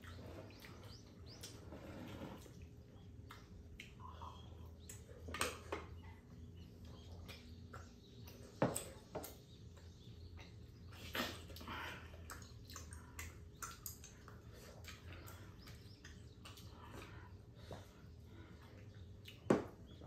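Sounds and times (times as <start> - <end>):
mouth noises of eating: 0.0 - 20.0
steady low hum: 0.0 - 20.0.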